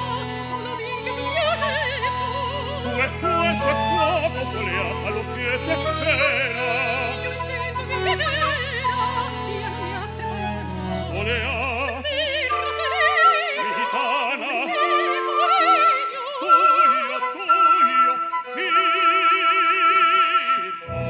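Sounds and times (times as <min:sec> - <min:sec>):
operatic duet singing: 0:00.0 - 0:21.0
small orchestra: 0:00.0 - 0:21.0.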